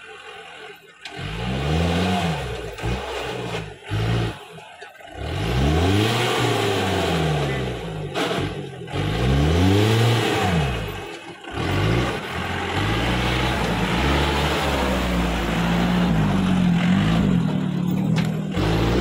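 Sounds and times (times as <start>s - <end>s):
jeep engine revving: 0.0s - 19.0s.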